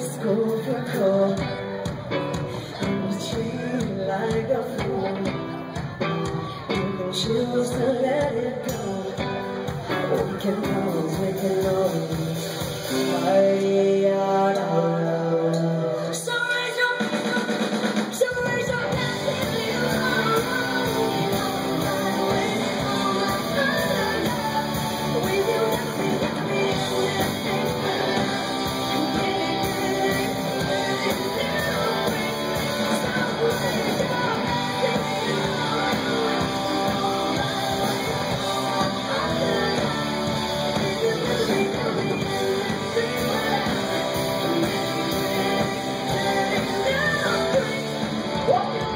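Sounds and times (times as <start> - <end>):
drum kit: 0.0 - 14.8, 15.5 - 48.9
bass guitar: 0.0 - 16.1, 18.2 - 48.9
electric guitars: 0.0 - 48.9
woman singing: 0.0 - 48.9.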